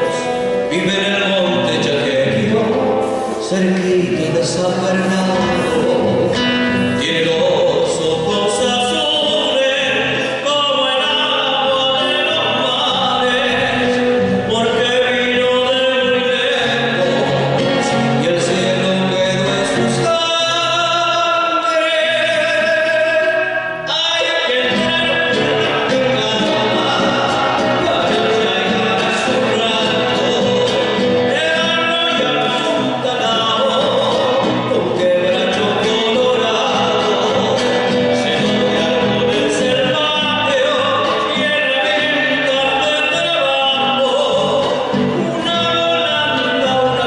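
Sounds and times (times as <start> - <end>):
folk song singing: 0.0 - 47.0.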